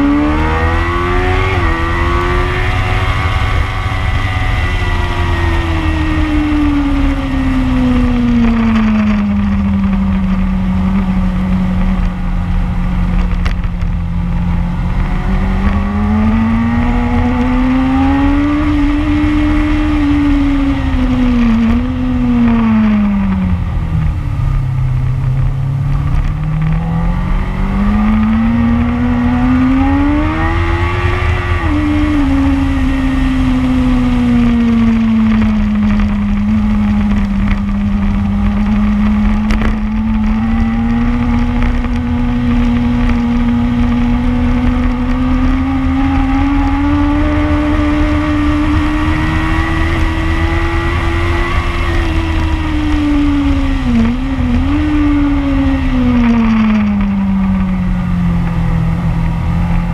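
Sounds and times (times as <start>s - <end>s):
motorcycle engine at speed: 0.0s - 59.9s
wind rumble: 0.0s - 59.9s.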